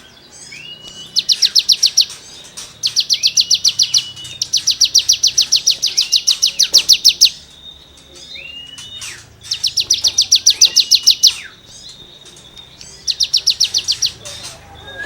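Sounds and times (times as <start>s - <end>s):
songbird singing sharp high notes: 0.0s - 15.0s.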